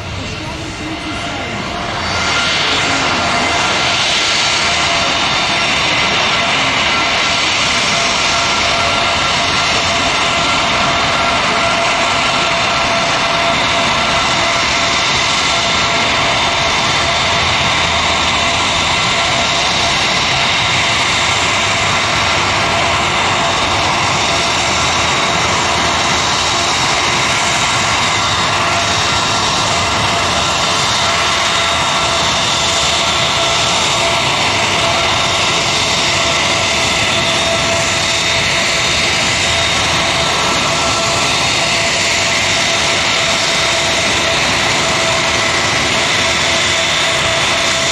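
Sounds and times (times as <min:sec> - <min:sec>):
aircraft turbine engines whining: 0:00.0 - 0:47.9.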